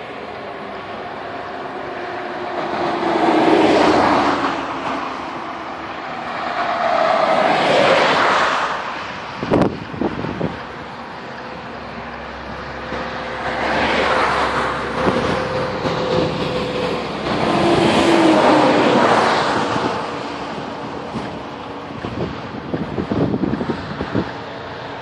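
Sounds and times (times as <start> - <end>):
road and wind noise: 0.0 - 25.0
vehicles passing: 0.0 - 25.0.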